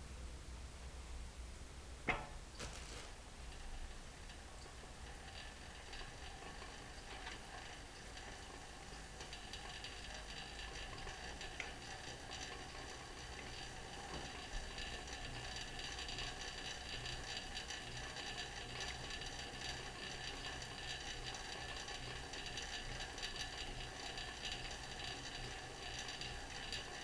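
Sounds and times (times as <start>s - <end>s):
bike chain and flywheel whirring: 2.6s - 27.0s.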